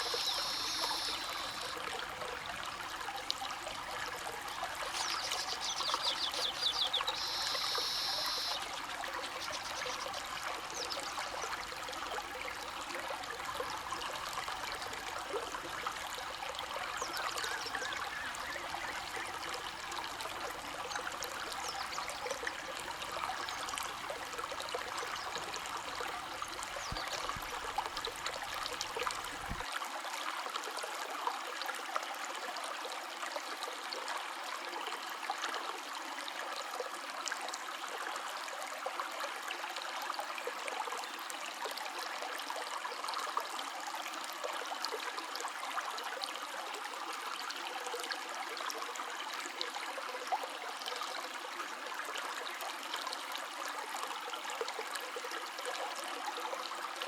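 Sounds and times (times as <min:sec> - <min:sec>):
stream of water flowing: 0:00.0 - 0:57.0.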